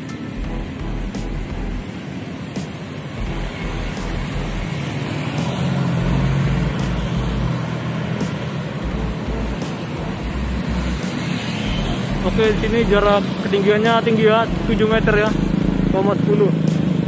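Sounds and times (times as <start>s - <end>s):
low engine hum: 0.0s - 13.4s, 14.4s - 17.0s
cars and motorbikes passing: 0.0s - 17.0s.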